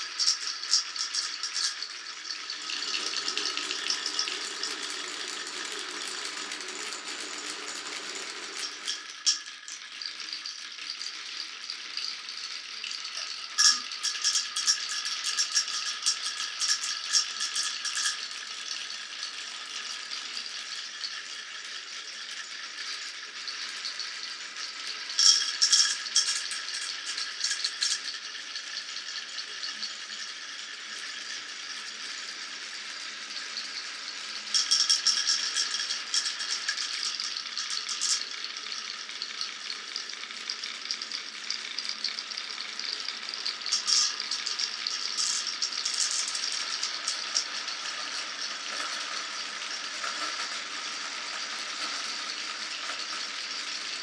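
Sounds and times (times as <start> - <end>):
marbles rolling down a marble run: 0.0 - 54.0.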